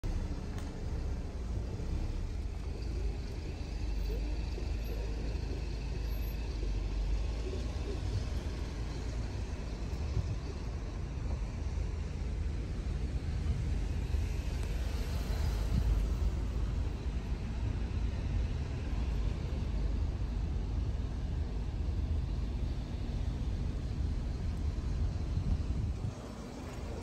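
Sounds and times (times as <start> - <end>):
car engine and tyre noise: 0.0 - 27.0.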